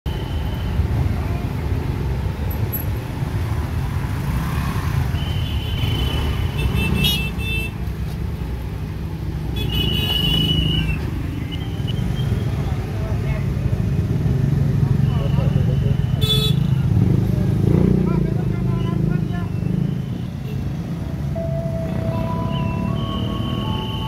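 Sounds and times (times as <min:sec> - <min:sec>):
vehicle engines running: 0:00.1 - 0:24.0.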